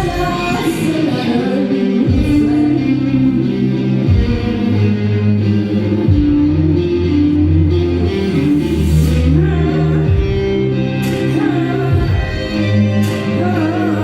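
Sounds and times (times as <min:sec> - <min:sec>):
bass notes: 0:00.0 - 0:14.0
electric guitar: 0:00.0 - 0:14.0.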